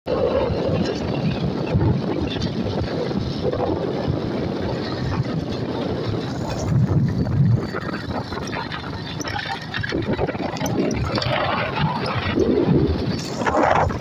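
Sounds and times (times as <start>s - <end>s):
motorcycle engine running: 0.1s - 14.0s
wind buffeting microphone: 0.1s - 14.0s.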